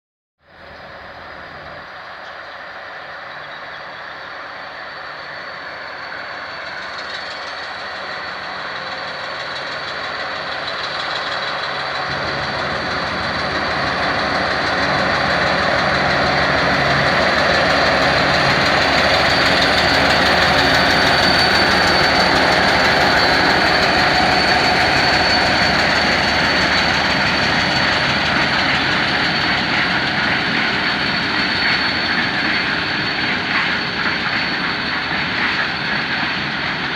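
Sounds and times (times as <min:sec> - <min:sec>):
diesel locomotive engines: 0:00.5 - 0:36.9.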